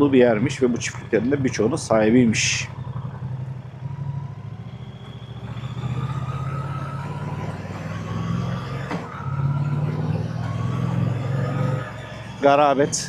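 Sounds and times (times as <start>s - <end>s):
motorcycle engine and exhaust: 0.0s - 13.0s.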